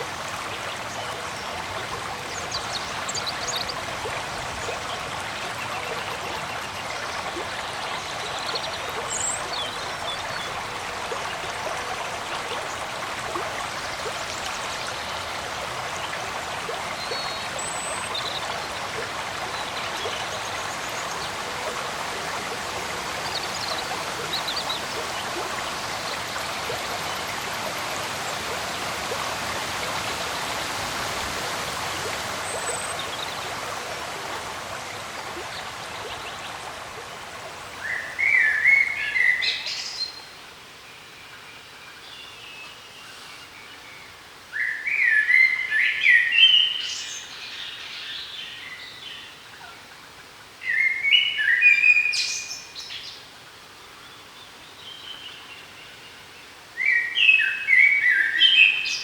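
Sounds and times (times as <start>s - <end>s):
stream rushing and trickling: 0.0s - 59.0s.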